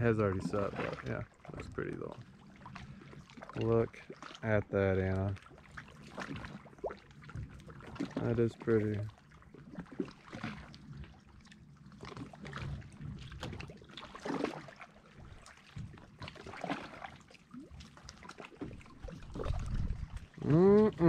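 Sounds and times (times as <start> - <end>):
small waves lapping on rocks: 0.0 - 21.0.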